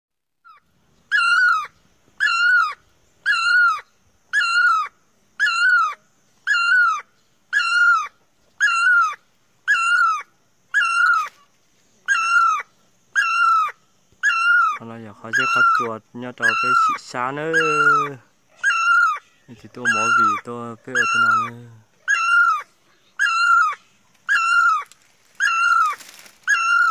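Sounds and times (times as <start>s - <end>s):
animal calling: 0.4s - 26.9s.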